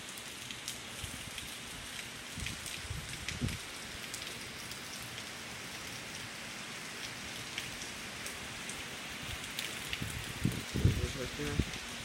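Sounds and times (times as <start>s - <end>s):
heavy rain falling: 0.0s - 12.0s
raindrops ticking on surfaces: 0.0s - 12.0s.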